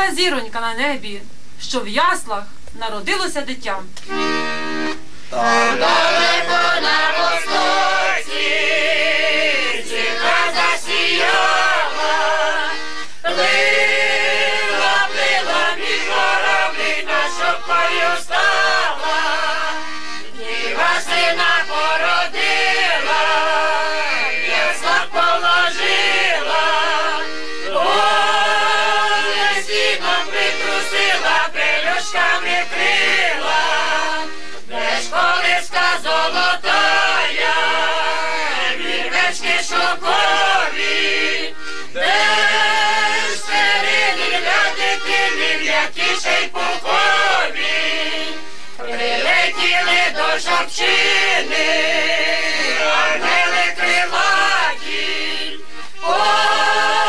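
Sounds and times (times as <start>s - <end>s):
button accordion: 4.0s - 57.0s
group singing a carol: 4.1s - 57.0s.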